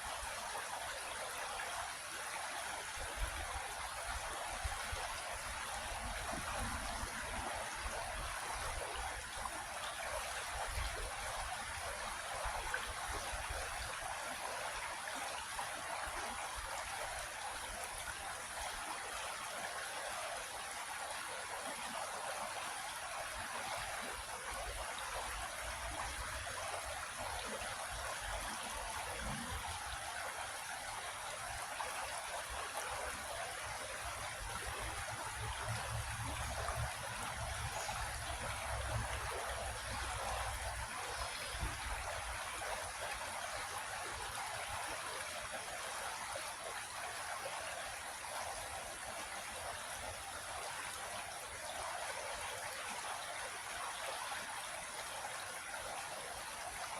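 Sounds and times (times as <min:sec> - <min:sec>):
creek water flowing over rocks: 0:00.0 - 0:56.9.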